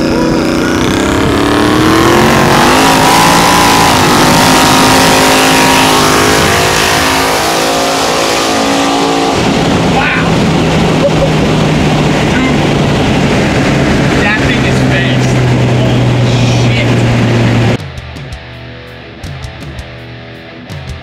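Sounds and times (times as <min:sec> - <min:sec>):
car engine accelerating hard: 0:00.0 - 0:17.8
low engine hum: 0:00.0 - 0:18.4.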